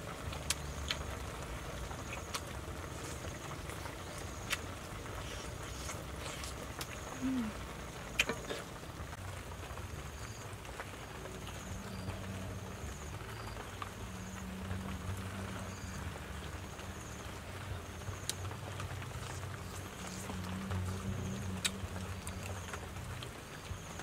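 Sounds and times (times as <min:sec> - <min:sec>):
light crackle and clicks: 0:00.0 - 0:07.4, 0:08.1 - 0:24.0
low steady hum: 0:00.0 - 0:24.0.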